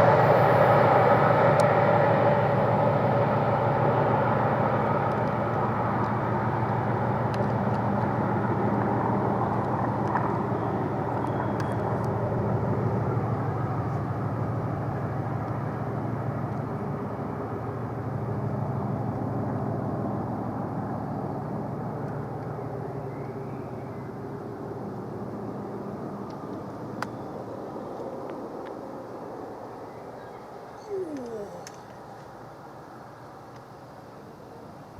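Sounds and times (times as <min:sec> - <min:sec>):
diesel locomotive engine drone: 0:00.0 - 0:32.9.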